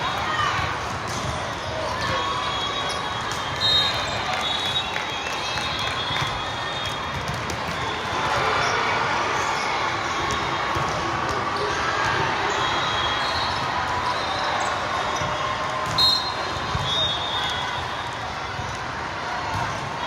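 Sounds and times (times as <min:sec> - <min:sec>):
murmur of many voices: 0:00.0 - 0:20.0.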